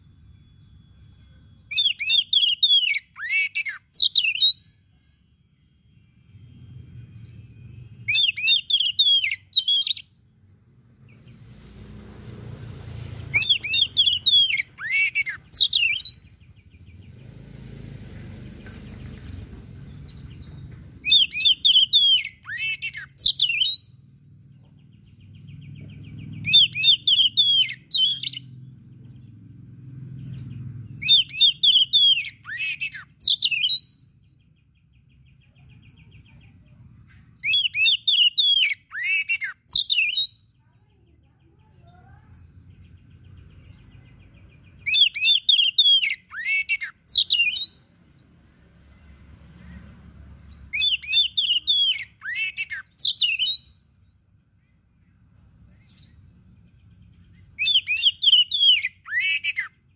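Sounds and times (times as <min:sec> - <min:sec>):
magpie-robin singing: 0:01.0 - 0:04.9, 0:05.6 - 0:10.2, 0:13.2 - 0:17.4, 0:18.4 - 0:54.0, 0:54.6 - 0:59.9.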